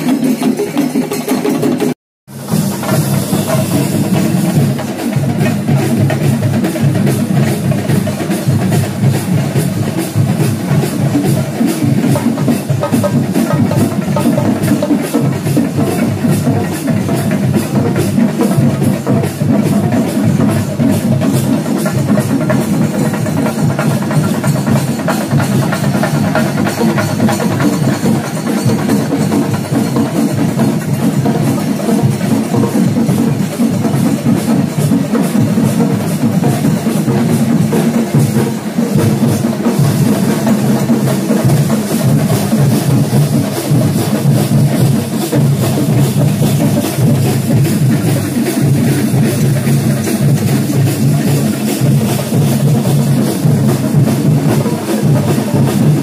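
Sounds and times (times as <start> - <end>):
many drums beaten together: 0.0 - 56.0.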